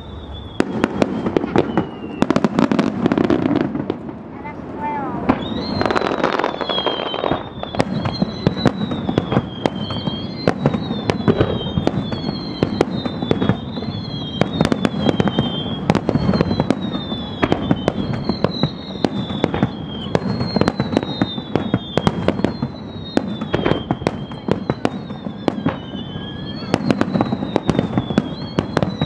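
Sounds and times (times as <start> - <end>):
high wavering whistle tone: 0.0 - 2.9, 5.3 - 29.0.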